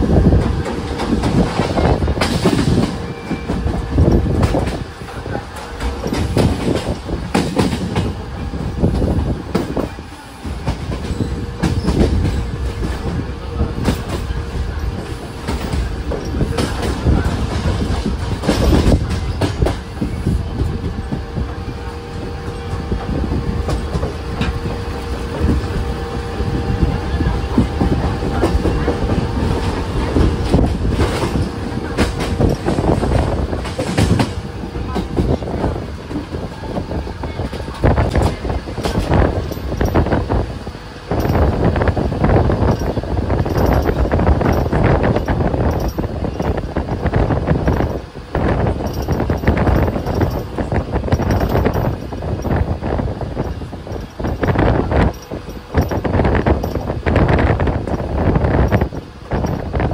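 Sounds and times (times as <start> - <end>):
heavy train rumble: 0.0 - 59.9
train wheels clattering over rail joints: 0.0 - 59.9.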